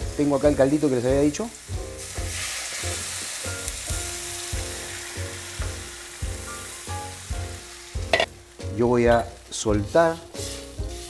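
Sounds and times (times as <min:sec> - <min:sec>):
liquid sizzling in a hot pan: 0:00.0 - 0:11.0.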